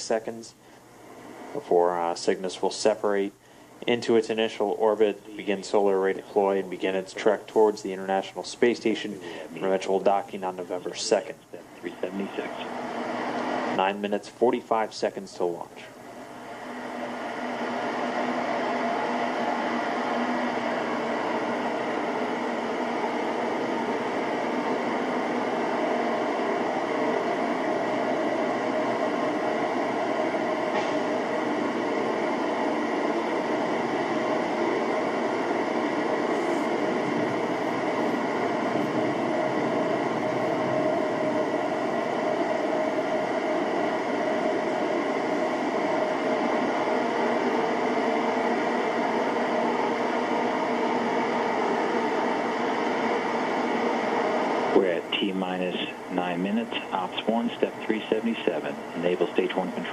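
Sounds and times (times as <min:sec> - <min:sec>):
rushing hiss of gas venting: 0:05.2 - 0:14.0, 0:15.4 - 0:59.9.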